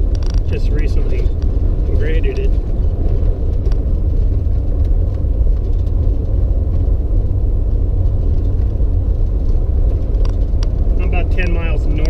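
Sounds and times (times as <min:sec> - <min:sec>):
vehicle rumble on gravel road: 0:00.0 - 0:12.0.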